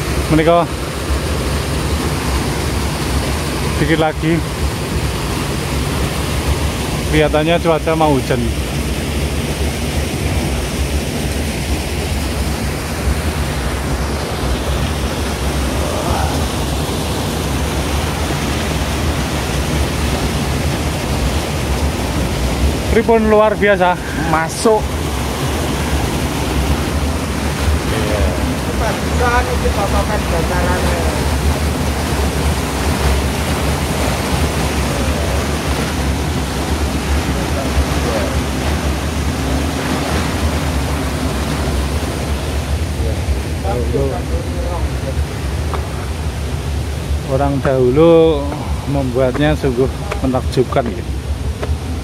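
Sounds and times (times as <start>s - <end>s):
flowing water: 0.0s - 52.0s.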